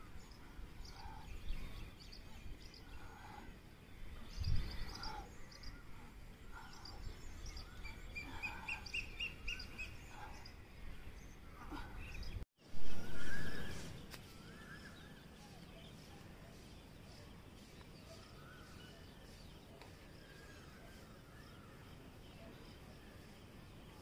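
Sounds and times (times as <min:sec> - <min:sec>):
faint birds calling: 0:00.0 - 0:24.0.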